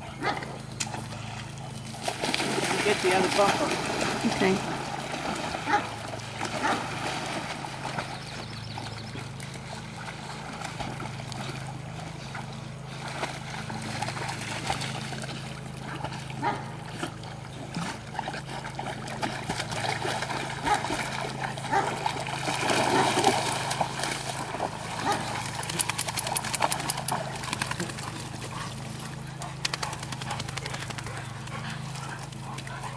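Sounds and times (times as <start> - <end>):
dogs splashing in water: 0.3 - 32.9.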